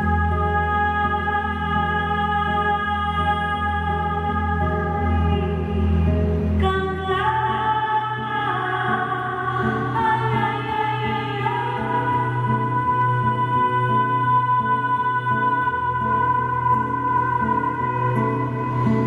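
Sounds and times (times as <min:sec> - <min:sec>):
woman singing long notes: 0:00.0 - 0:05.6, 0:06.6 - 0:19.0
guitar: 0:00.0 - 0:19.0.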